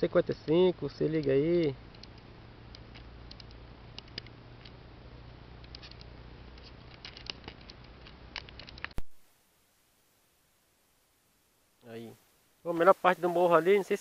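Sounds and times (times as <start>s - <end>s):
faint low hum: 0.0s - 13.7s.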